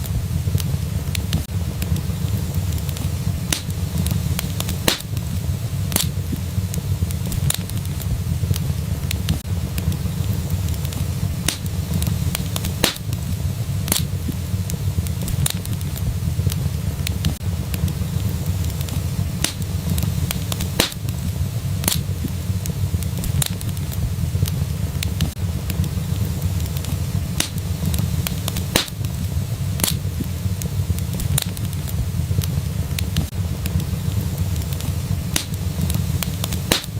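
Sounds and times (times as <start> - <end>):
low rumble of flames: 0.0 - 36.9
sharp cracks of burning wood: 0.0 - 36.9
sharp pops of fire: 0.0 - 36.9
wood fire crackling: 0.0 - 36.9.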